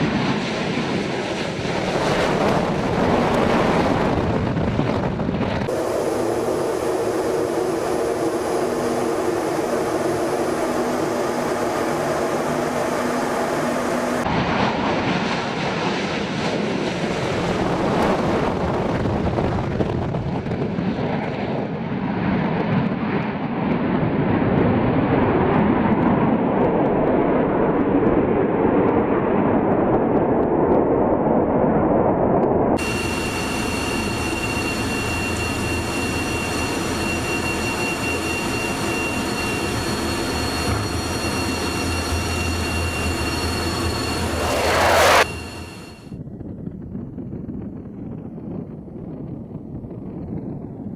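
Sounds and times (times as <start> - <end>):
jet roar: 0.0 - 46.2
jet engine whine: 0.0 - 47.6.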